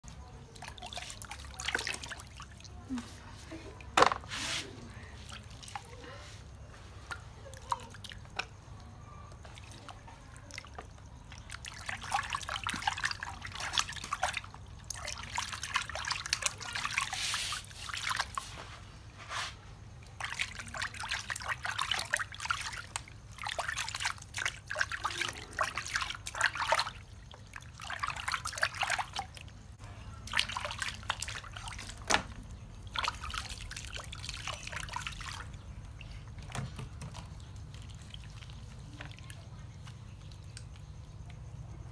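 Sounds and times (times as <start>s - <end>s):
water splashing in plastic basin: 0.0s - 19.2s, 19.8s - 41.9s.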